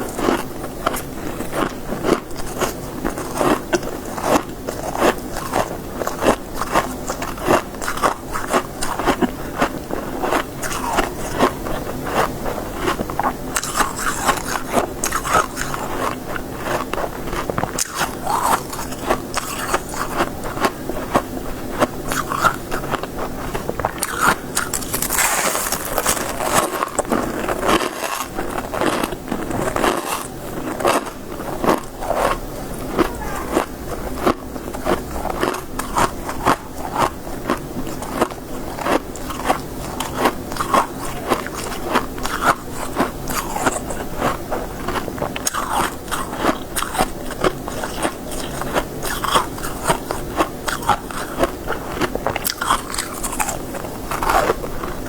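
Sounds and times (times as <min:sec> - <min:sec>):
chewing crunchy ice: 0:00.0 - 0:55.0.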